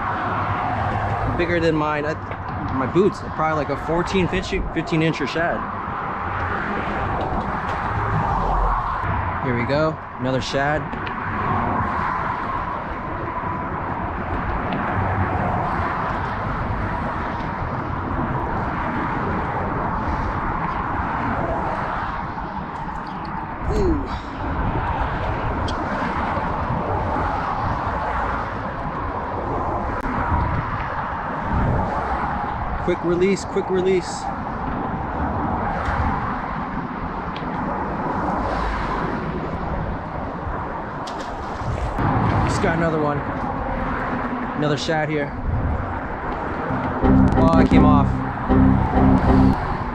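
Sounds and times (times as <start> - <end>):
road traffic hum: 0.0 - 49.9.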